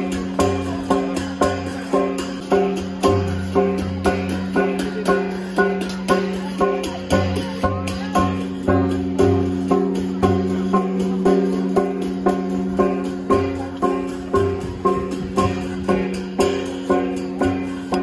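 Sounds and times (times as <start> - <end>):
plucked string instrument: 0.0 - 18.0.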